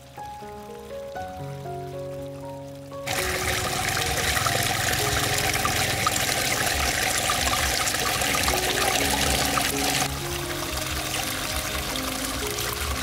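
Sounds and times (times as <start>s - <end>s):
fountain water splashing into pond: 0.0s - 13.0s.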